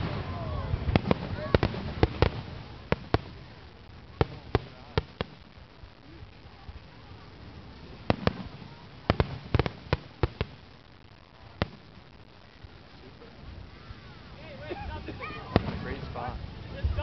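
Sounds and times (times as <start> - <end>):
firework bangs: 0.0 - 17.0.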